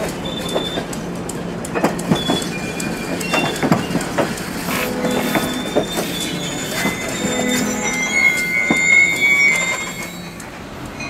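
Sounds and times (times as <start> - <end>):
train wheels clicking on rails: 0.0 - 11.0
high-pitched wheel squeals: 2.1 - 11.0.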